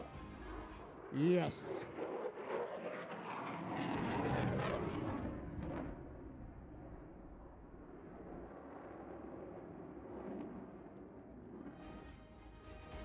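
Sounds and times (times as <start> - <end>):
jet aircraft roar: 0.0 - 12.0.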